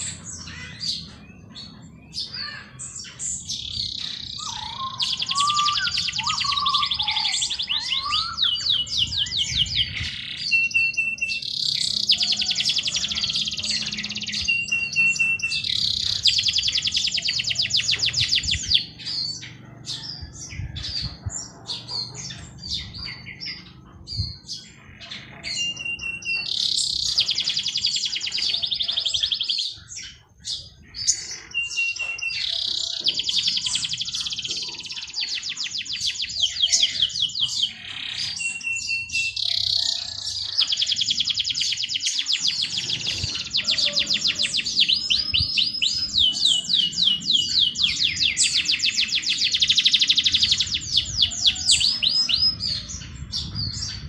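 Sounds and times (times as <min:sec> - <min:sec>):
bird chirps: 0:00.0 - 0:54.0
songbirds singing trilled phrases: 0:00.0 - 0:54.0.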